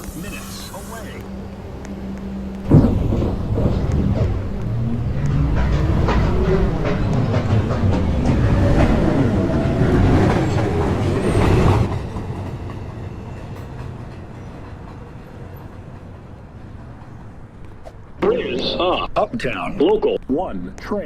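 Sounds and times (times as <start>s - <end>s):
whine of train motors: 0.0s - 17.6s
subway train wheel clatter: 0.0s - 18.2s.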